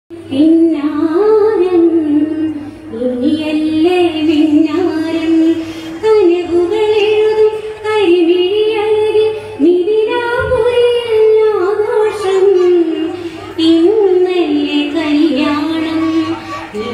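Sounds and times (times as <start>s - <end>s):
woman singing: 0.1s - 16.9s.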